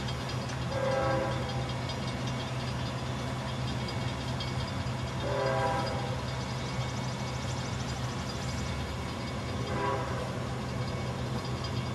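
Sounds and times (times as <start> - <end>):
locomotive diesel engine: 0.0 - 11.9.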